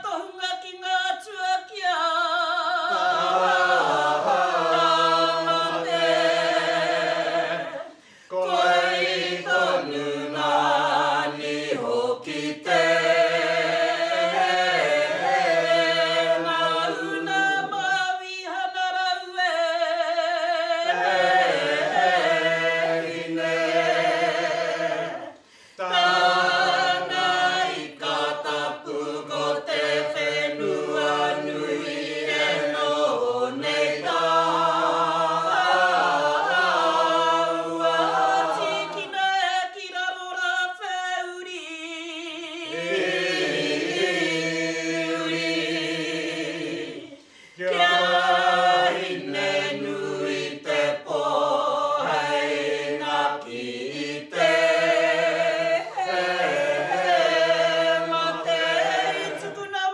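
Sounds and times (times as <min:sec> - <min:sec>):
group singing a chant: 0:00.0 - 0:59.9.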